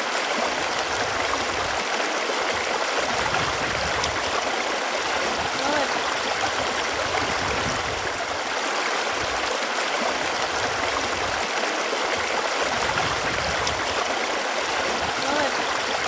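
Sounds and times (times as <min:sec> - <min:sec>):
running water flowing: 0:00.0 - 0:16.0.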